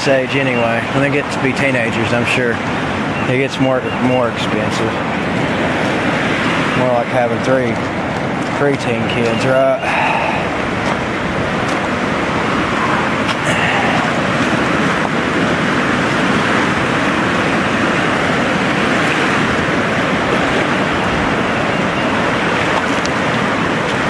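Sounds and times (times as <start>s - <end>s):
river rushing over gravel: 0.0s - 24.0s.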